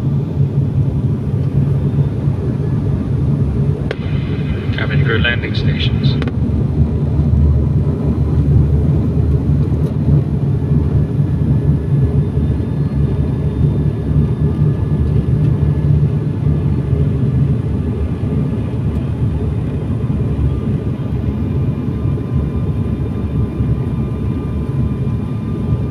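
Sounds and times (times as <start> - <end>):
airliner cabin drone: 0.0 - 25.9.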